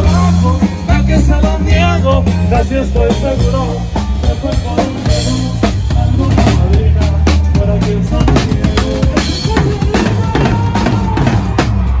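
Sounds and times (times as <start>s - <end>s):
bass notes: 0.0s - 12.0s
drum kit beat: 0.0s - 12.0s.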